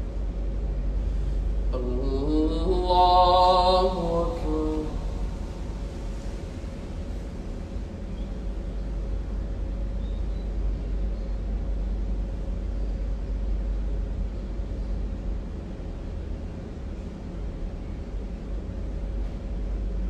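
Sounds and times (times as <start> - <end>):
faint steady hum: 0.0 - 20.0
low rumble and hiss: 0.0 - 20.0.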